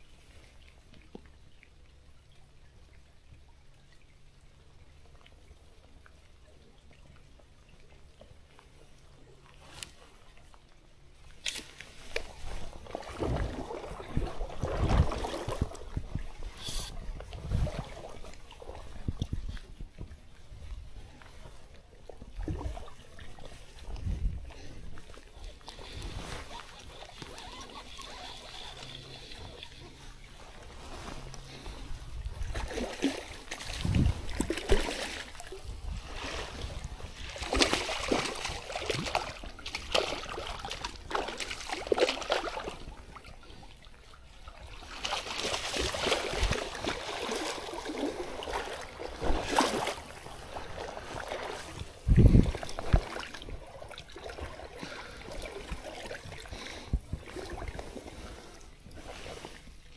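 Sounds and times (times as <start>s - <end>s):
water splashing in stream: 9.4s - 59.6s.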